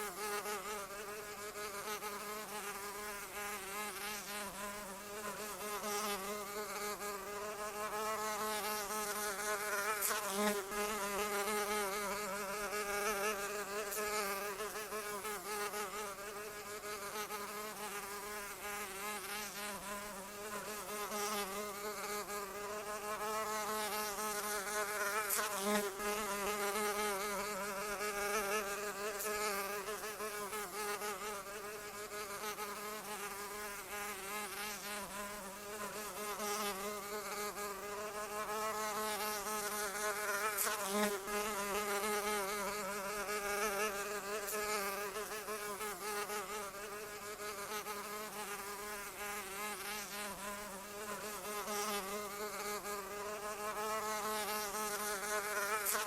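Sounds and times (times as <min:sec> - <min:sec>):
insect wings buzzing: 0:00.0 - 0:56.0.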